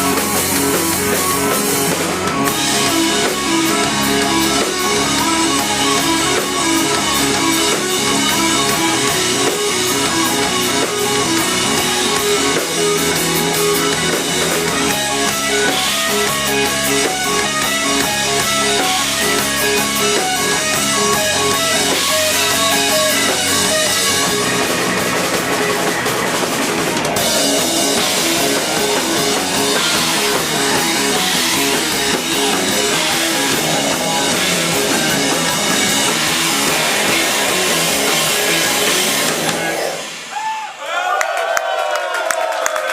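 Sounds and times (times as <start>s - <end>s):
electric guitars: 0.0s - 40.4s
drum kit: 0.0s - 40.8s.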